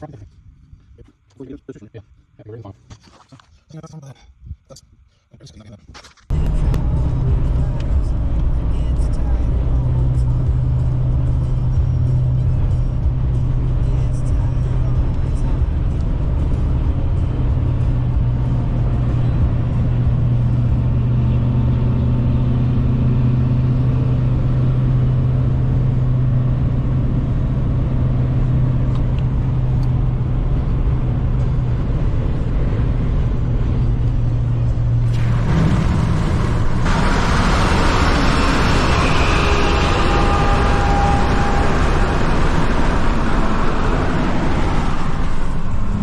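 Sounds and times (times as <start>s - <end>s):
road noise: 6.3s - 46.0s
truck diesel engine drone: 6.3s - 46.0s.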